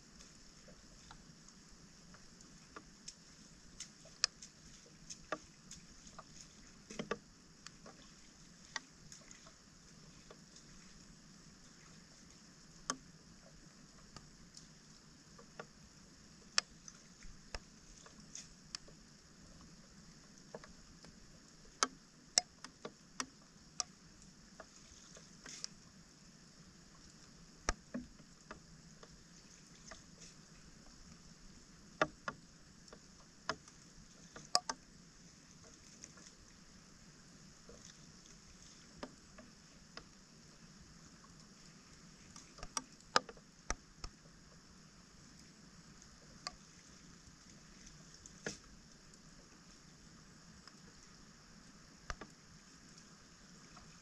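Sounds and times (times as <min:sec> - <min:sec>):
faint high hiss: 0:00.0 - 0:54.0.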